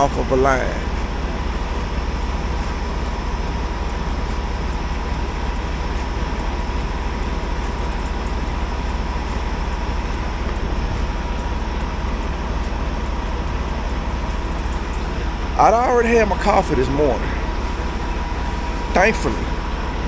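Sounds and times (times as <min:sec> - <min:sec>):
thin steady hum: 0:00.0 - 0:20.0
truck engine idling: 0:00.0 - 0:20.0.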